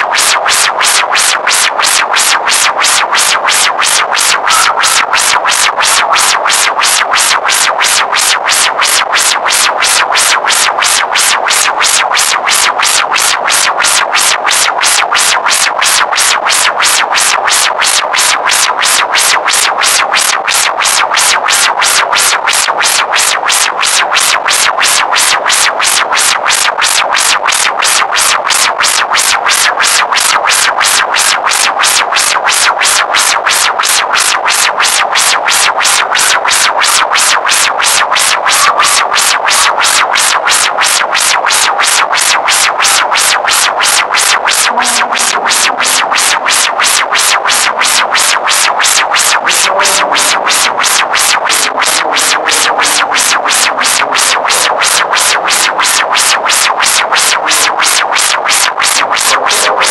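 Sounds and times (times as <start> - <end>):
synthesizer music with fast pulse: 0.0 - 59.9.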